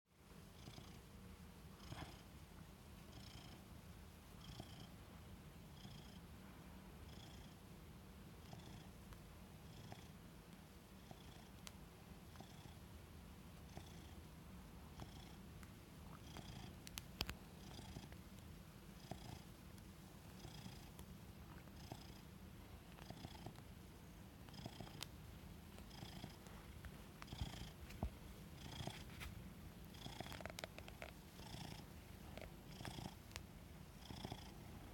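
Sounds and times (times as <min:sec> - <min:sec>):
cat purring: 0:00.4 - 0:02.4, 0:03.0 - 0:05.0, 0:05.6 - 0:06.3, 0:07.0 - 0:07.6, 0:08.4 - 0:09.0, 0:09.6 - 0:10.2, 0:10.9 - 0:12.9, 0:13.6 - 0:34.9.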